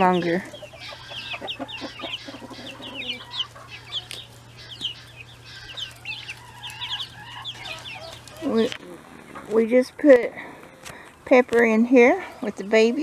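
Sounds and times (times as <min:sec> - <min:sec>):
chicks peeping: 0:00.0 - 0:13.0
low steady hum: 0:00.0 - 0:13.0.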